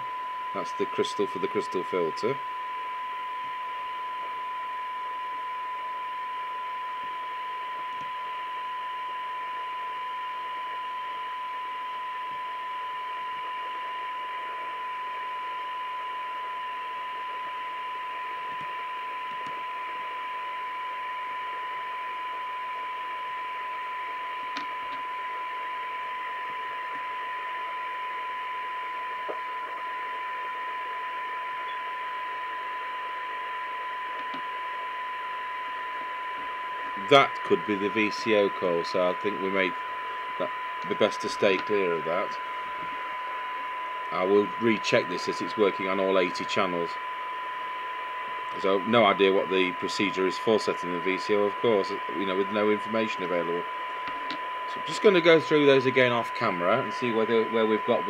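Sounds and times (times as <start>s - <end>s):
radio loudspeaker test tone: 0.0s - 58.0s
radio noise hiss: 0.0s - 58.0s.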